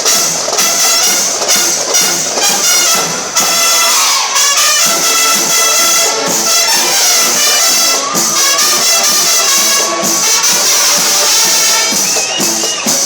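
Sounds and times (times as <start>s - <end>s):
live band with brass and percussion: 0.0s - 13.0s.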